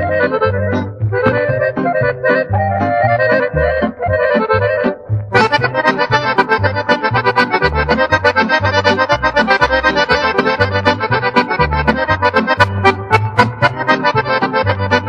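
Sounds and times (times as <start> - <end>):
accordion dance tune: 0.0 - 15.0.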